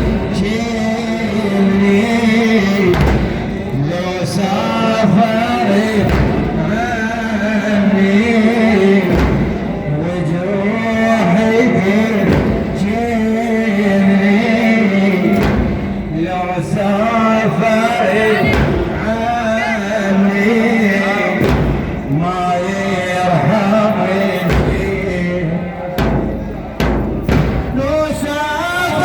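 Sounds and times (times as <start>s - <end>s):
heavy thuds: 0.0s - 13.7s, 14.3s - 29.0s
man chanting religious recitation: 0.0s - 27.0s, 27.6s - 29.0s.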